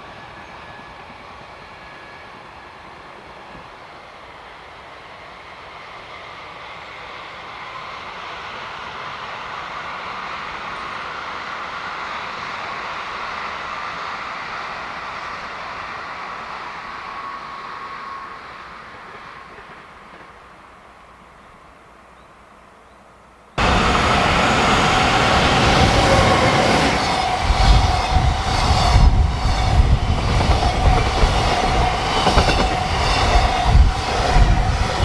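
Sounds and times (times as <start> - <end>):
freight train passing: 0.0 - 22.1, 23.6 - 35.0.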